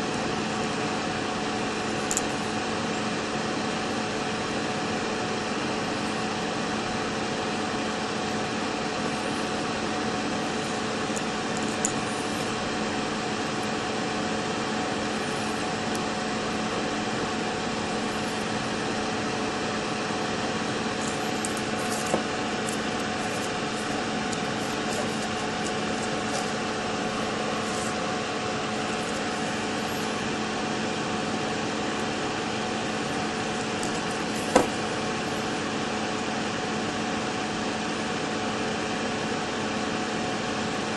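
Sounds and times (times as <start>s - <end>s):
background hum and hiss: 0.0s - 40.9s.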